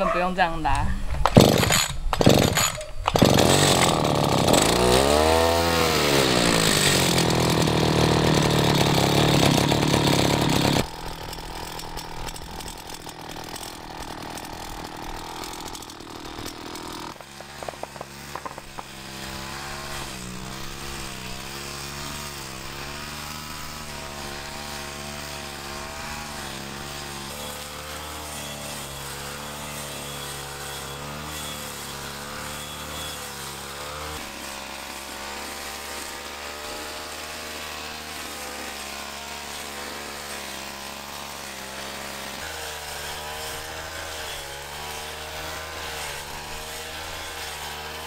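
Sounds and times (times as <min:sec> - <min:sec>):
brush cutter motor running: 0:00.0 - 0:48.0.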